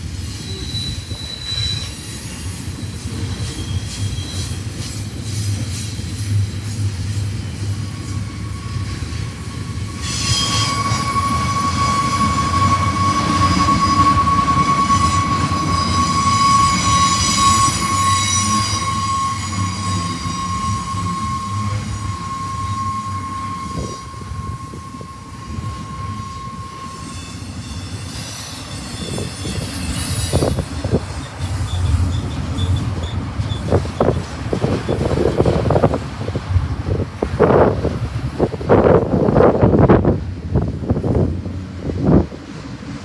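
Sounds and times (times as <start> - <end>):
high wheel squeal: 0.0 - 37.8
train cars rumbling past: 0.0 - 43.0.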